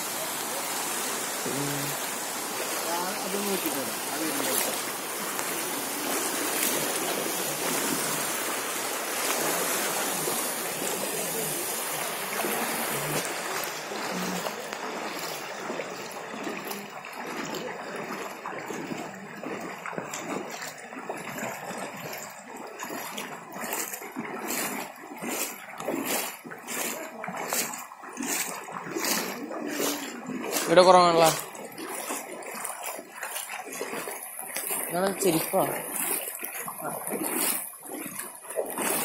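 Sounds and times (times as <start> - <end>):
floodwater rushing: 0.0 - 39.0
water splashes: 0.0 - 39.0.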